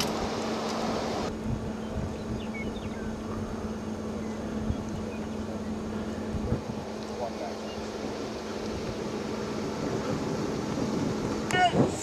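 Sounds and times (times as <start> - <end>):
van engine hum: 0.0 - 12.0.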